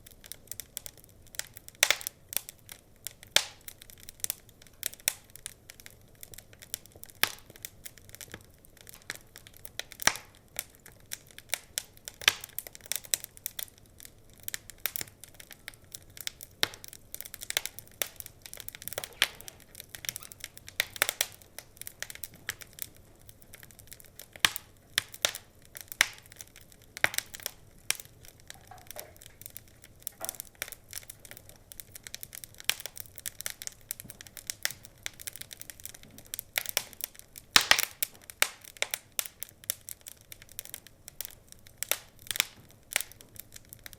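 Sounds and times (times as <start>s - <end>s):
wood fire crackling: 0.0s - 43.9s
sharp pops and snaps: 0.1s - 43.9s.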